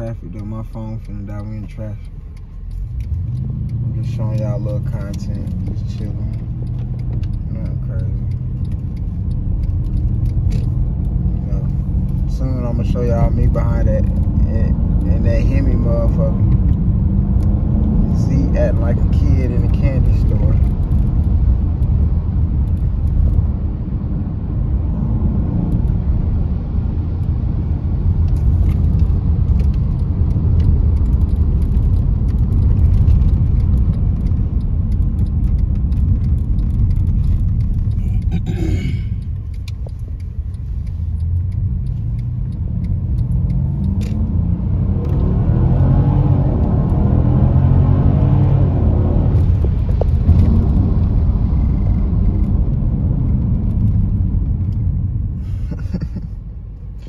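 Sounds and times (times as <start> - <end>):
car engine rumble inside cabin: 0.0 - 57.0
tyre road noise: 0.0 - 57.0.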